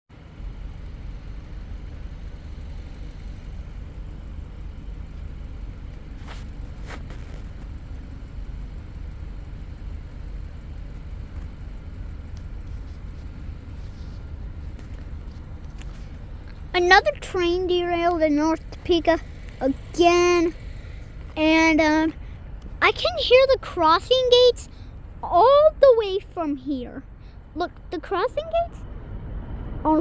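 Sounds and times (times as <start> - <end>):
low outdoor rumble: 0.1 - 30.0.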